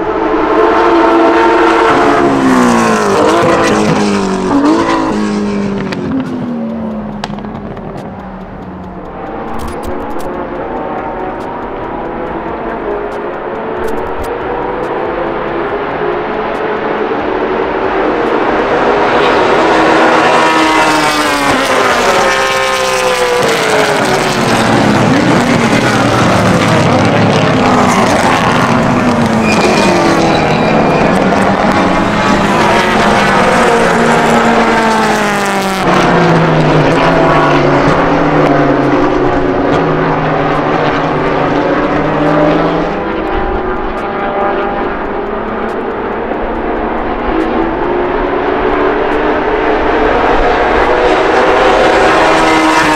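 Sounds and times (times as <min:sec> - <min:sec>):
race car engines revving: 0:00.0 - 0:52.9.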